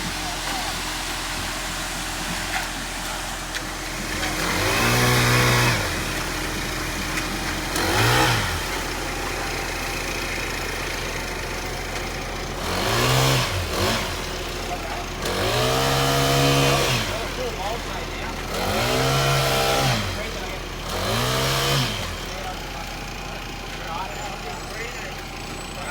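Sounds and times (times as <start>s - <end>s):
diesel truck engine revving: 0.0s - 25.9s.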